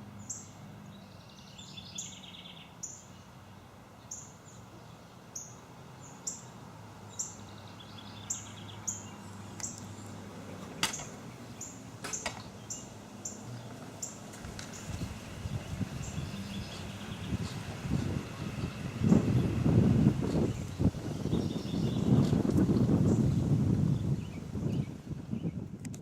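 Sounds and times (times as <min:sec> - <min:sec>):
bird chirping: 0:00.2 - 0:25.6.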